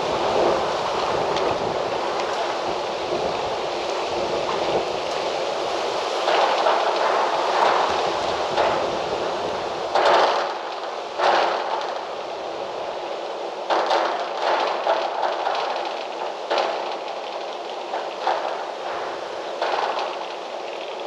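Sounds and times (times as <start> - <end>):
wind blowing in gusts: 0.0 - 21.0.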